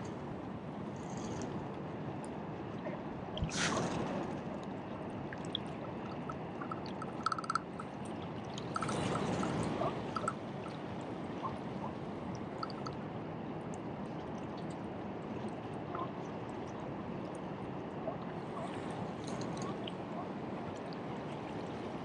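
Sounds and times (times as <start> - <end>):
steady rushing water: 0.0 - 22.0
water splashing surges: 2.6 - 22.0.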